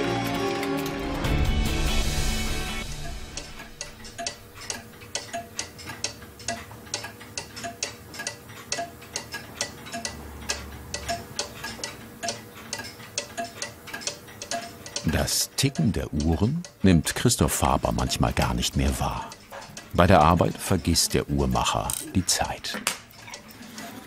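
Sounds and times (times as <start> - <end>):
pendulum clocks ticking: 0.8 - 24.0.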